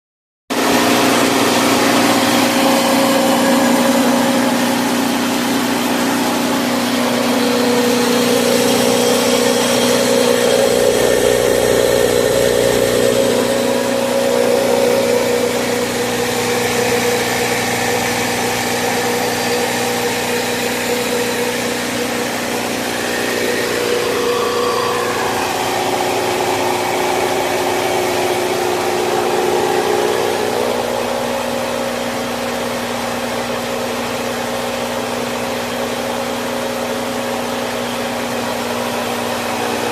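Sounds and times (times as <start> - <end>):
rice mill motor humming: 0.6 - 39.9.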